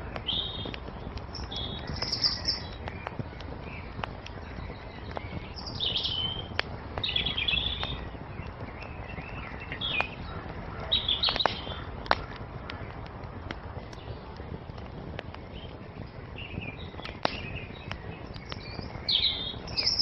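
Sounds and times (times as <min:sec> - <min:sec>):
songbirds singing: 0:00.0 - 0:20.0
wood fire crackling: 0:00.0 - 0:20.0.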